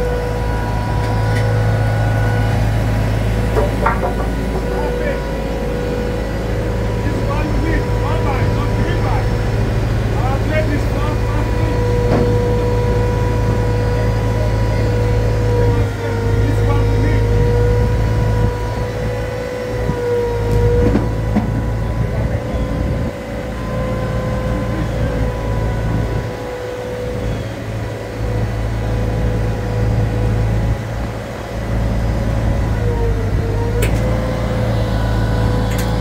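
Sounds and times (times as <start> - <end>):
forklift engine running: 0.0 - 36.0
steady whine: 0.0 - 36.0.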